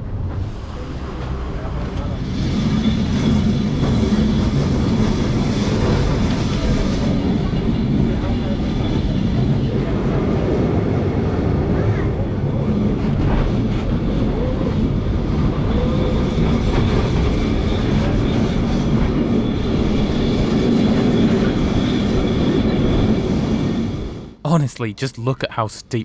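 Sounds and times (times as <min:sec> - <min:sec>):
tram rumbling on rails: 0:00.0 - 0:23.5.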